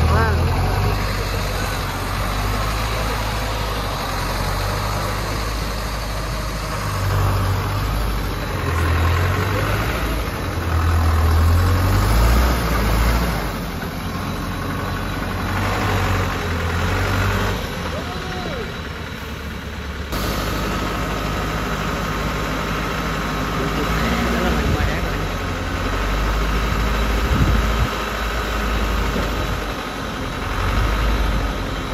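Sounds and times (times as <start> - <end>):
diesel truck engine rumbling: 0.0 - 31.9.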